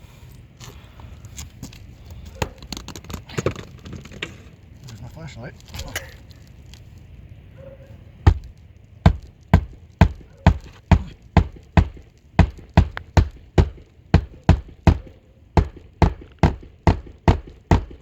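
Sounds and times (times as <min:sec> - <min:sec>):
footsteps on shingle roof: 0:00.6 - 0:07.0, 0:08.3 - 0:18.0.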